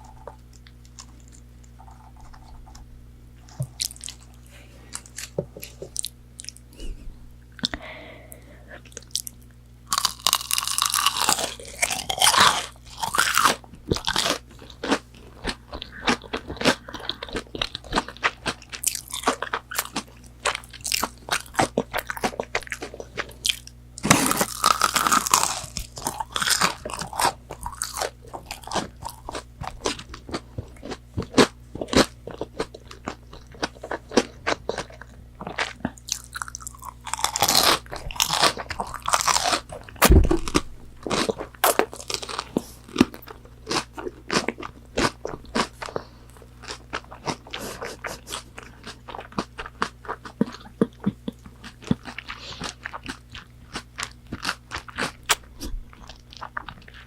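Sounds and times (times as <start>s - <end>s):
crisp crunches of biting: 3.7s - 6.6s, 8.9s - 57.0s.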